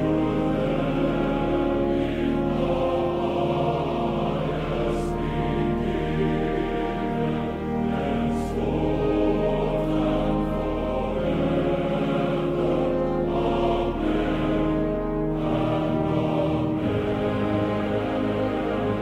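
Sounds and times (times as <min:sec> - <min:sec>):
choir singing long chords: 0:00.0 - 0:19.0.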